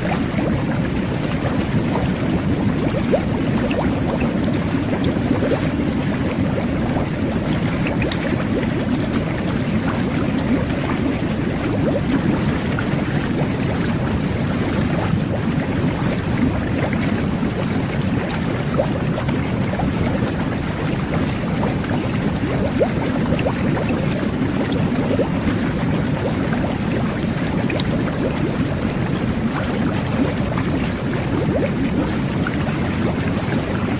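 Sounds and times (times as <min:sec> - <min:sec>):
bathtub jets churning water: 0:00.0 - 0:33.9.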